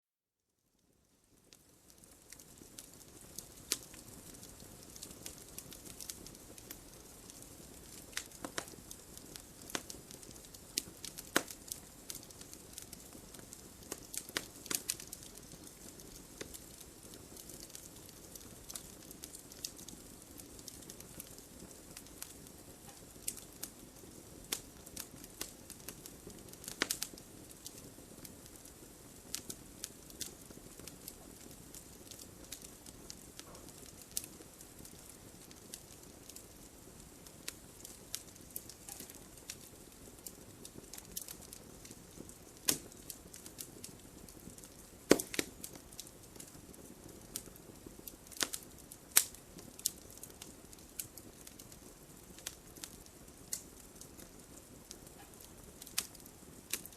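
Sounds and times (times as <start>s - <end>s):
soft hiss of flames: 0.5s - 56.9s
logs crackling in a fireplace: 0.7s - 56.9s.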